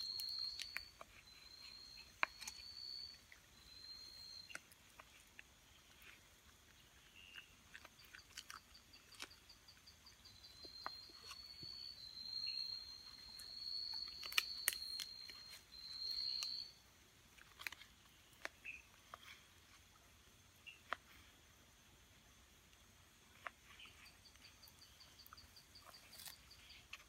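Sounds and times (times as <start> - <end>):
insect trilling: 0.0 - 19.0, 23.3 - 27.0.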